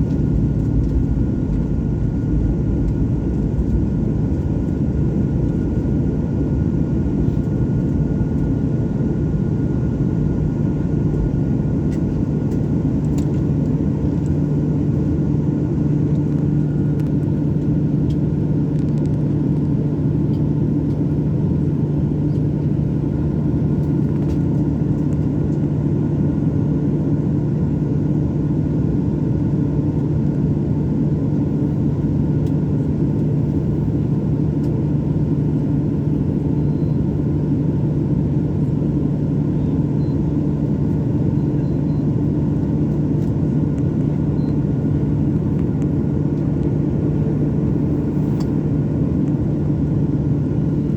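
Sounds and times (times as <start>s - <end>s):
jet airliner drone: 0.0s - 50.9s.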